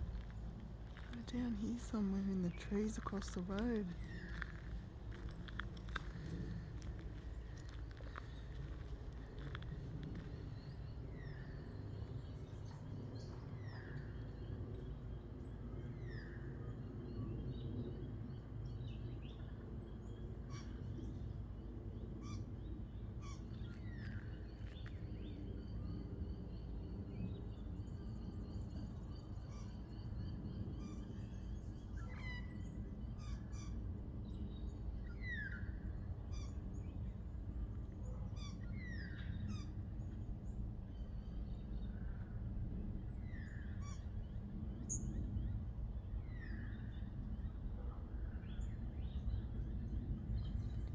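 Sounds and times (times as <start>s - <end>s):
low background rumble: 0.0s - 50.9s.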